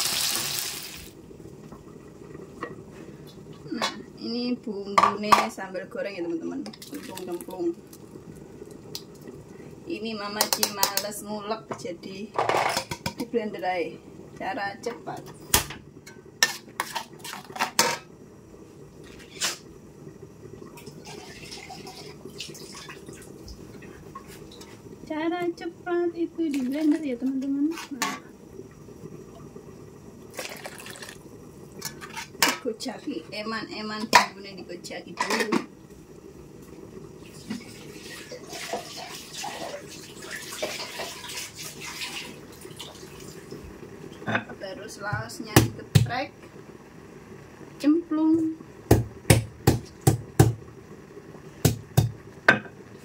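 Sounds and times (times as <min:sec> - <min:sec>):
gas stove burner rushing: 0:00.0 - 0:53.0.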